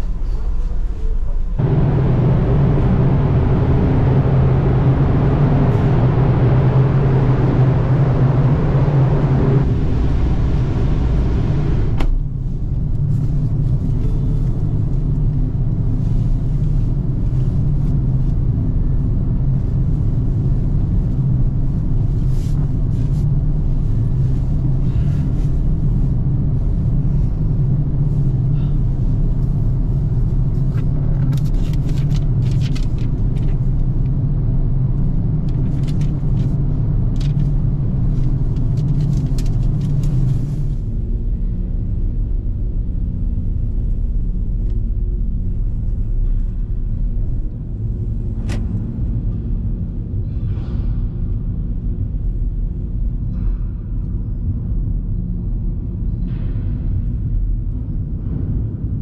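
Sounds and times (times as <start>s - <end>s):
vehicle engine rumbling: 0.0s - 59.0s.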